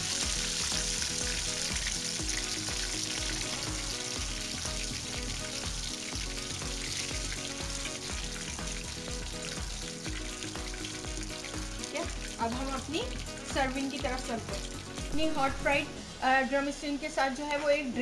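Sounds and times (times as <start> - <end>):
oil sizzling while deep-frying: 0.0 - 18.0.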